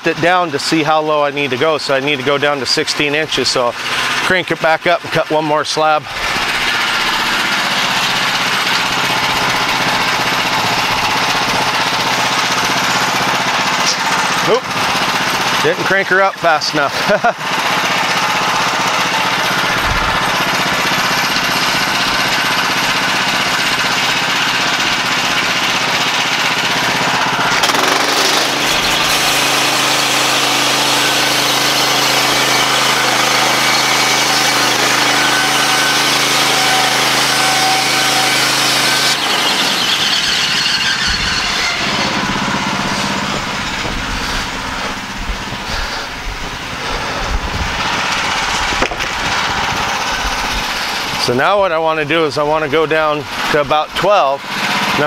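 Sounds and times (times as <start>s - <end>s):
bandsaw mill cutting log: 0.0s - 55.0s.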